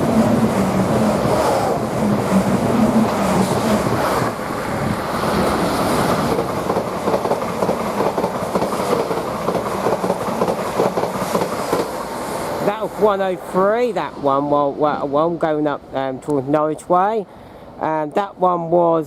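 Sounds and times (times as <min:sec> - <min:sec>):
electric trains passing at speed: 0:00.0 - 0:19.0.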